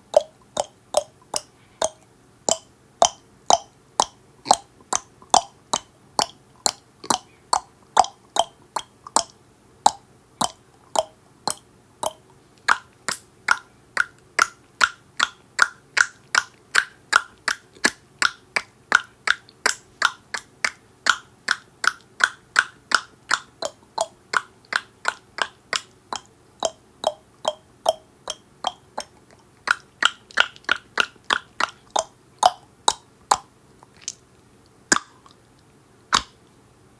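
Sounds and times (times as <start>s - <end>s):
tongue clicking: 0.0s - 34.2s, 34.9s - 36.4s.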